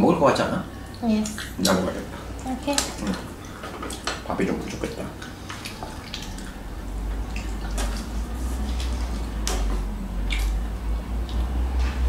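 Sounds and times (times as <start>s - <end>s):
low hum: 0.0s - 12.0s
wet chewing: 0.8s - 11.5s.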